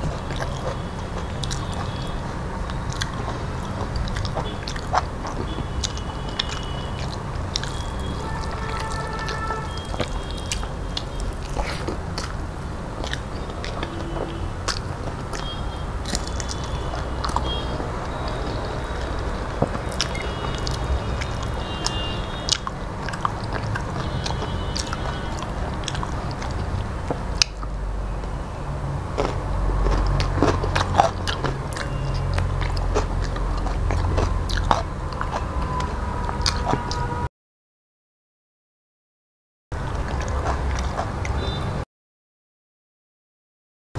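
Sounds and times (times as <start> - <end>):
chewing and smacking mouth sounds: 0.0 - 28.4, 29.1 - 37.1, 39.8 - 41.6.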